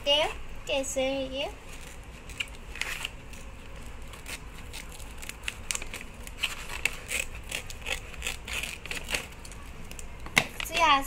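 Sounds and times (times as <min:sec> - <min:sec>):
plastic packaging crinkling: 0:01.6 - 0:10.9
scissors snipping plastic: 0:01.8 - 0:10.9.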